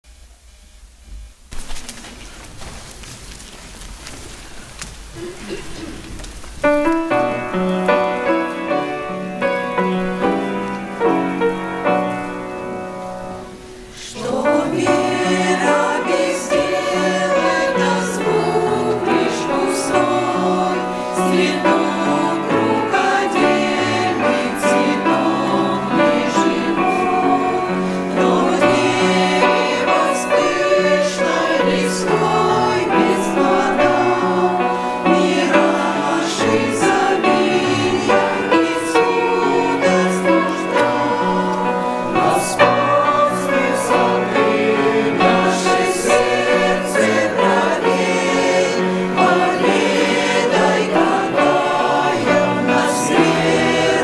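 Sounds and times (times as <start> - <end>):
choir singing: 6.6 - 54.0
instrumental accompaniment: 6.7 - 54.0.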